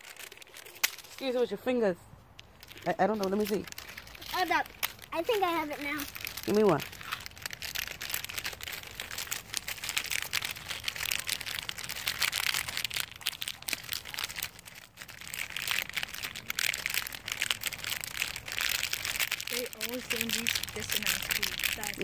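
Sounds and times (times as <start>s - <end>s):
foil packets crinkling: 0.0s - 22.0s.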